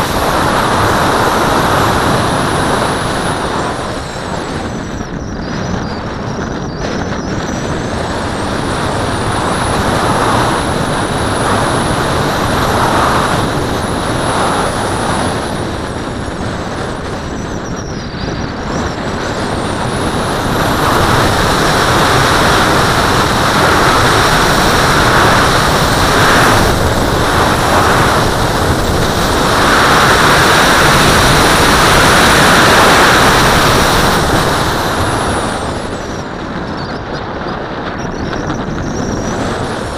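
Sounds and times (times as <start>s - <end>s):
airflow rushing over glider: 0.0s - 39.9s.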